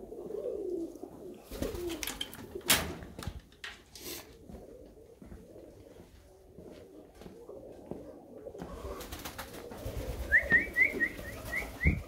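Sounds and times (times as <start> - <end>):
pigeons cooing: 0.0 - 2.8, 4.0 - 12.0.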